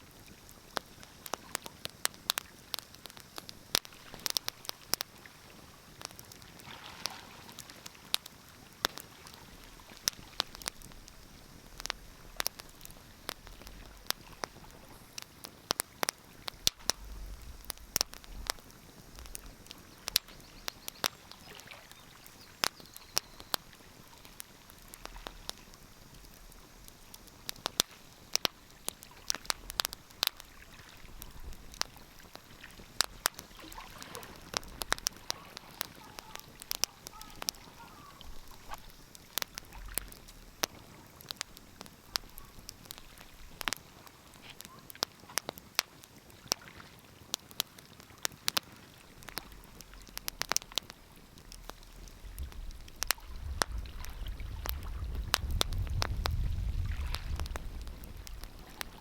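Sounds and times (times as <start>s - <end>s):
fire hiss: 0.0s - 59.0s
wood fire crackling: 0.0s - 59.0s.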